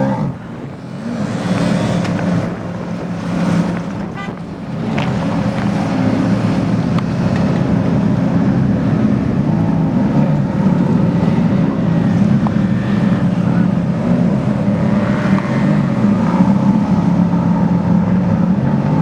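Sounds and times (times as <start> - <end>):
sports car engine idling: 0.0 - 19.0.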